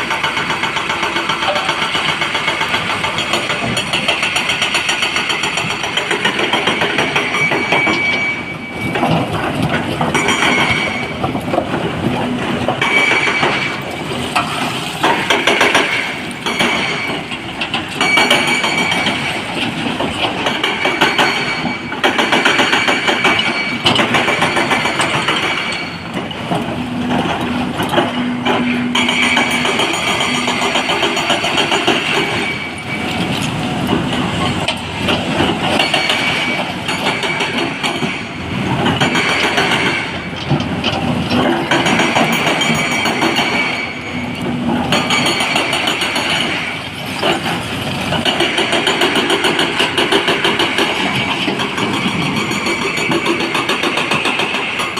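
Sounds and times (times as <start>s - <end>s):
heavy diesel engines running: 0.0s - 54.9s
rock and steel clanking: 0.1s - 54.9s.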